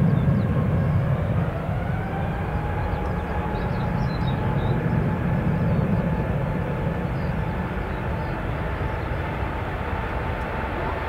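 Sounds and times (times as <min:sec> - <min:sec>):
jet engines at take-off power: 0:00.0 - 0:11.0.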